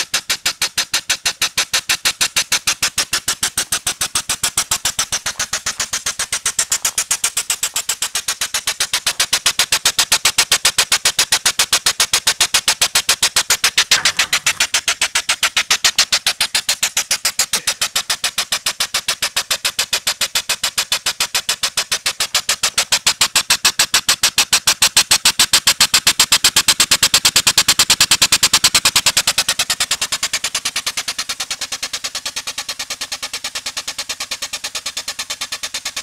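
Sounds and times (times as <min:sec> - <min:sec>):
steam engine chuffing: 0:00.0 - 0:36.0.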